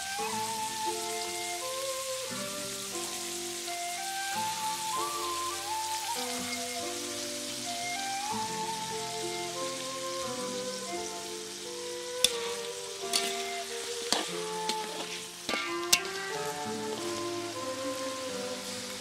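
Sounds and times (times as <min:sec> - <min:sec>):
background music: 0:00.0 - 0:19.0
meat sizzling in hot oil: 0:00.0 - 0:19.0.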